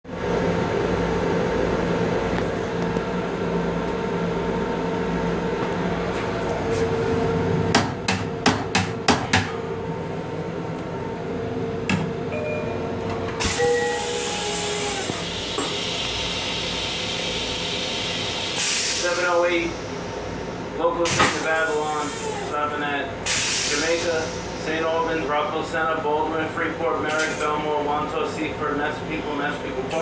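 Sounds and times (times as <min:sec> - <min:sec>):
railcar interior hum: 0:00.1 - 0:27.9.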